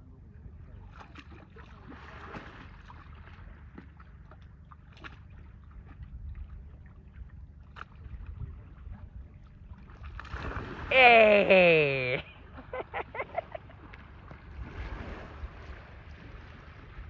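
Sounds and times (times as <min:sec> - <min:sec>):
water sloshing and splashing: 0:00.7 - 0:10.9, 0:12.5 - 0:17.0.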